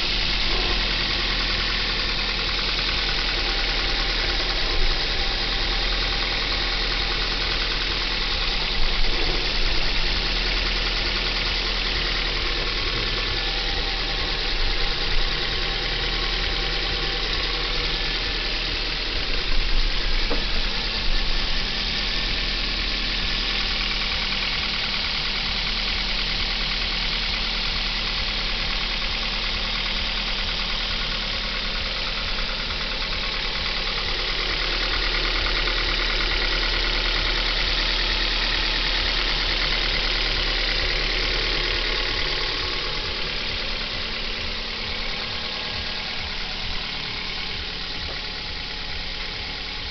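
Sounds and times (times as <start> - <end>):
car engine idling with knock: 0.0 - 49.9.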